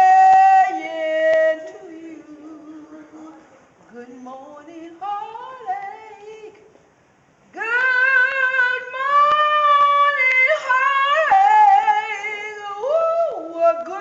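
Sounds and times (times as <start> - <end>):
woman singing unaccompanied: 0.0 - 6.8, 7.5 - 14.0.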